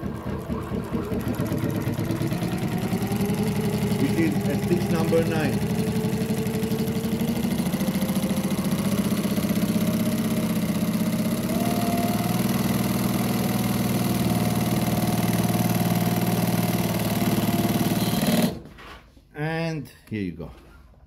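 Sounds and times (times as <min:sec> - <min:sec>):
industrial sewing machine running: 0:00.0 - 0:18.6.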